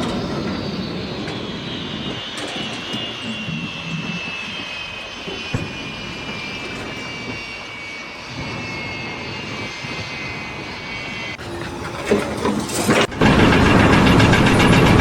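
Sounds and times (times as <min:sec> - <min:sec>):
continuous rumbling: 0:00.0 - 0:15.0
high-pitched mechanical whine: 0:00.0 - 0:15.0.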